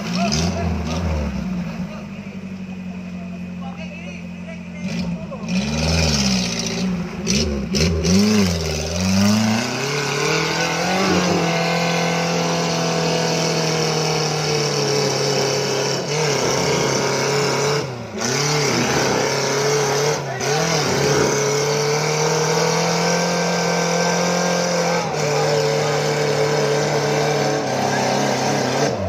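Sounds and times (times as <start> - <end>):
off-road engine revving: 0.0 - 29.0.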